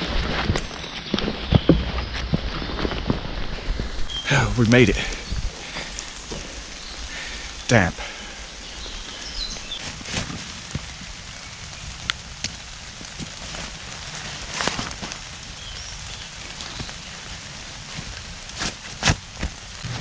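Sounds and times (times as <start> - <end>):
rain falling in woodland: 0.0 - 20.0
raindrops ticking: 3.8 - 19.9.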